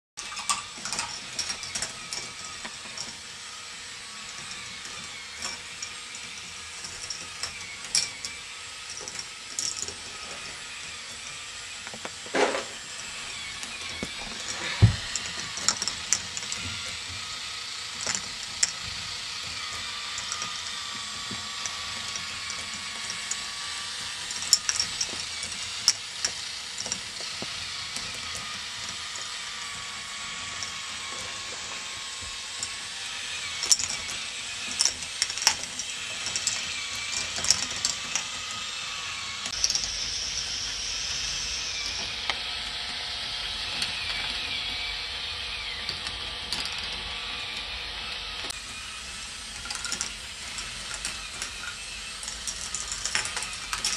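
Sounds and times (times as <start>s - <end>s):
plastic balls clattering on tracks: 0.2s - 41.2s, 49.4s - 53.9s
motors and gears whirring: 0.2s - 53.9s.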